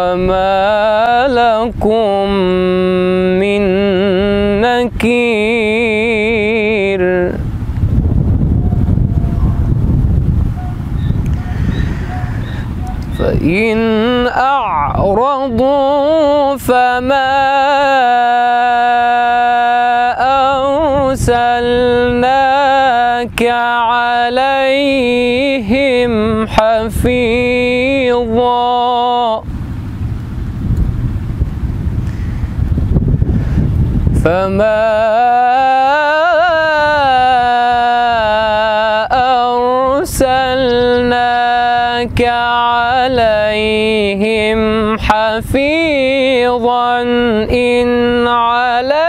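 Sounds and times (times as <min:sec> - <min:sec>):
man reciting with held notes: 0:00.0 - 0:07.6, 0:12.6 - 0:29.5, 0:34.1 - 0:49.0.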